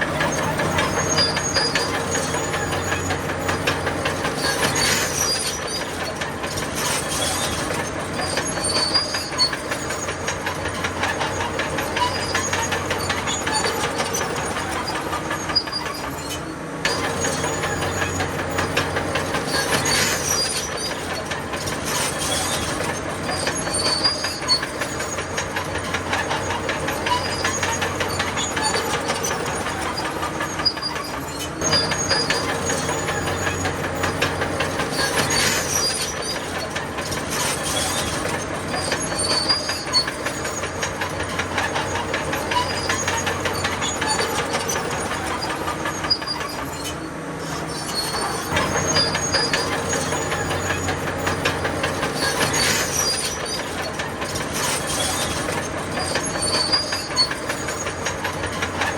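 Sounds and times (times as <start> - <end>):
diesel engine running: 0.0 - 58.9
steel tracks clanking: 0.0 - 58.9
high-pitched track squeals: 6.8 - 58.9.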